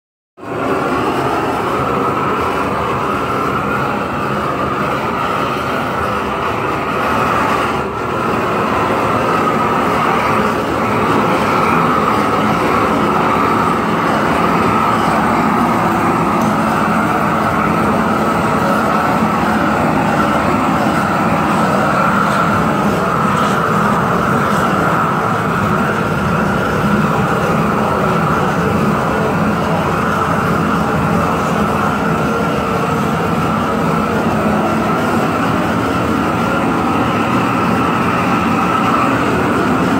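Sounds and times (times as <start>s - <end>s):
propane torch hissing: 0.4s - 39.9s.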